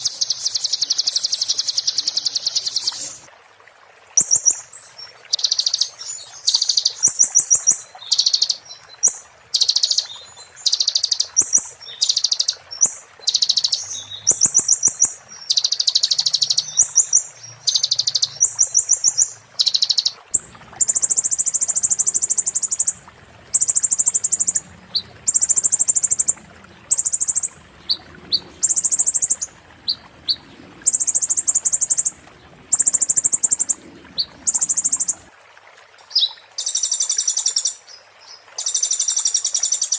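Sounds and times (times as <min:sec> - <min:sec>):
songbird singing: 0:00.0 - 0:03.3, 0:04.2 - 0:35.3, 0:36.0 - 0:39.9.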